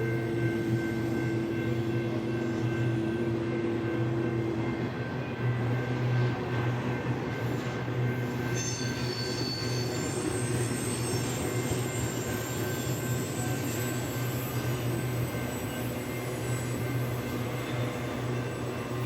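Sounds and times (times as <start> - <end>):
freight train rolling past: 0.0 - 19.0
train wheels squealing: 0.0 - 19.0.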